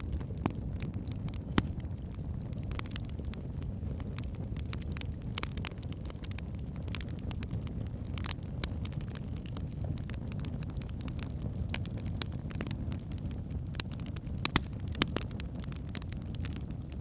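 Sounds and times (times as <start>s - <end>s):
flames rumbling: 0.0s - 17.0s
logs crackling and popping: 0.0s - 17.0s.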